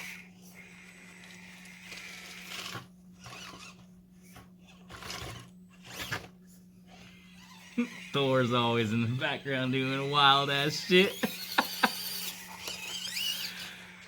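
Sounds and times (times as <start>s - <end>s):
toy motor whirring: 0.0s - 8.9s, 9.7s - 14.0s.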